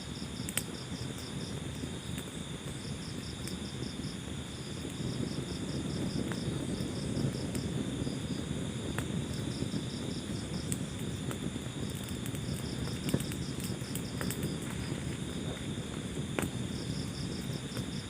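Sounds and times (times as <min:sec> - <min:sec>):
cricket chirping: 0:00.0 - 0:18.0
wood fire crackling: 0:00.0 - 0:18.0.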